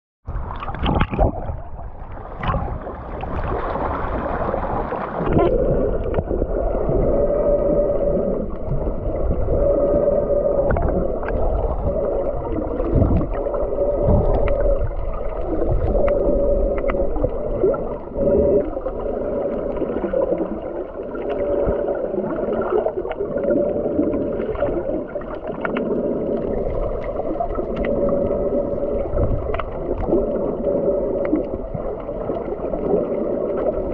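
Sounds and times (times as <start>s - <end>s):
muffled underwater drone: 0.3s - 33.9s
underwater clicks and bubbles: 0.3s - 33.9s.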